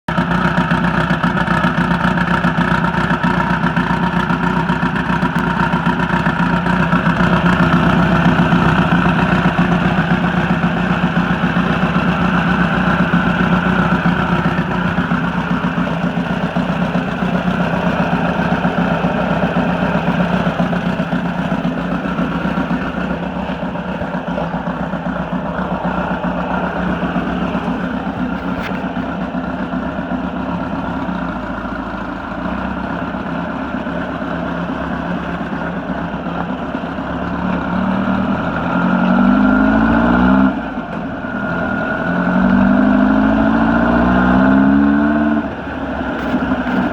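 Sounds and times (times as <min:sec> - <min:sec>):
turbocharged engine running: 0:00.0 - 0:46.9.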